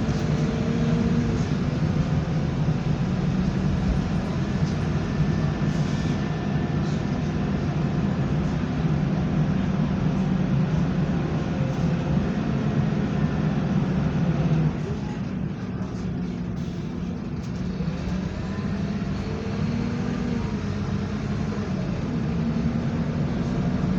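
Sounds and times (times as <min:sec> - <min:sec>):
bus engine drone: 0:00.0 - 0:23.9.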